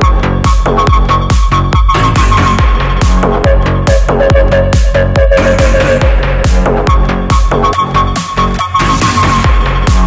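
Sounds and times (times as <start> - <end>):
electronic dance music: 0.0 - 10.0
kick drum: 0.0 - 10.0.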